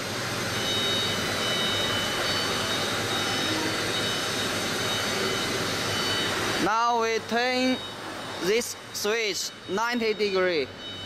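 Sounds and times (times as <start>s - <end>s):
faint high whine: 0.0s - 11.0s
lathe motors whirring: 0.0s - 11.0s.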